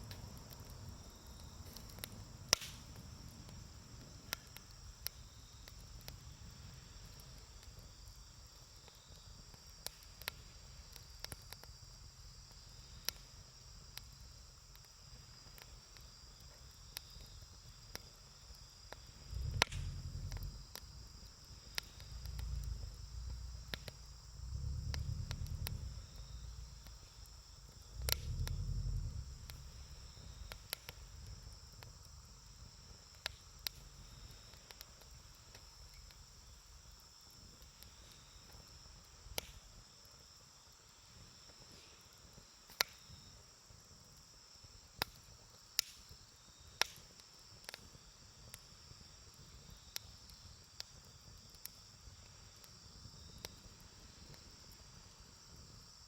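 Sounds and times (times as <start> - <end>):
campfire crackling: 0.0 - 56.0
insect chirring: 0.0 - 56.0.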